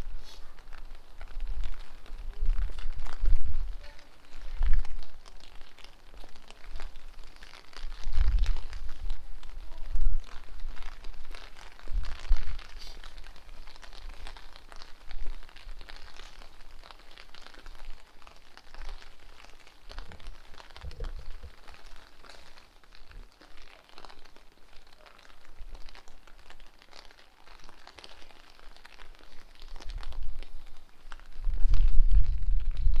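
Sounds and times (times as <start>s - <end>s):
raindrops ticking near microphone: 0.0s - 33.0s
steady rain: 0.0s - 33.0s.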